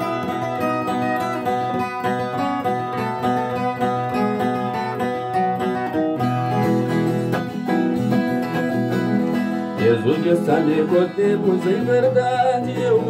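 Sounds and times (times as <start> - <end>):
plucked folk guitar: 0.0 - 13.0.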